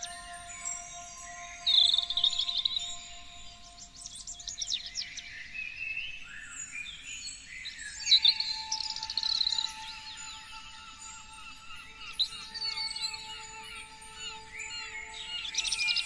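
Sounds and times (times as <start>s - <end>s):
songbirds singing and trilling: 0.0s - 16.0s.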